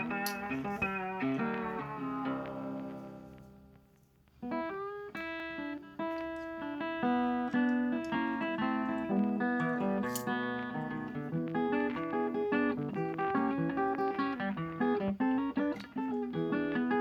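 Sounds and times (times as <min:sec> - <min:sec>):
plucked guitar: 0:00.0 - 0:17.0.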